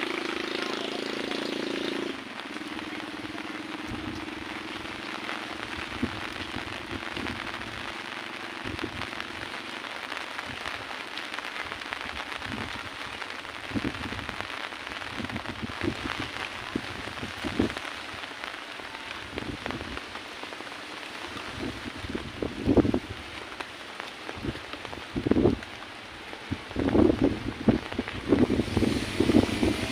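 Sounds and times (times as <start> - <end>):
heavy rain falling: 0.0 - 29.9.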